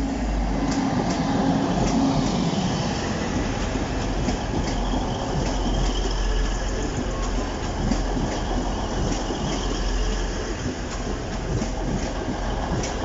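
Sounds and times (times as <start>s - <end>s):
train passing at speed: 0.0s - 13.0s
wheels rumbling on rails: 0.0s - 13.0s.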